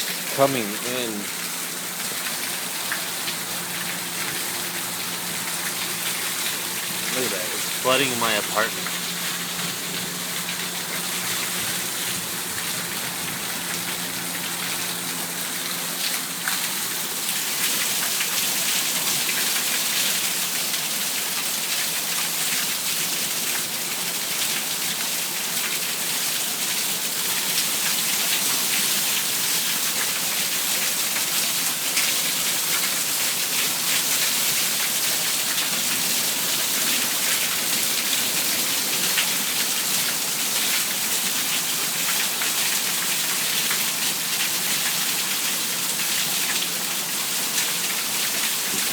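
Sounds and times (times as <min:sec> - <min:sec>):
heavy rain pouring: 0:00.0 - 0:48.9
water running off gutters: 0:00.0 - 0:48.9.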